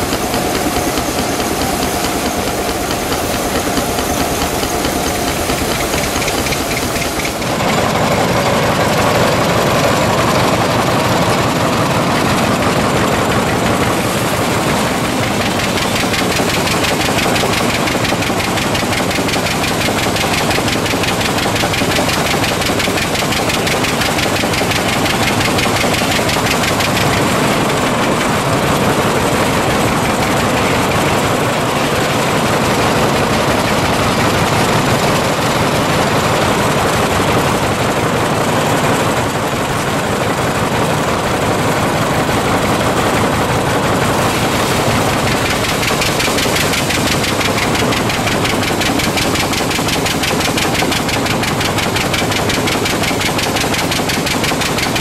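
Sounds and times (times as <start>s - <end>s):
tractor engine exhaust beat: 0.0s - 55.0s.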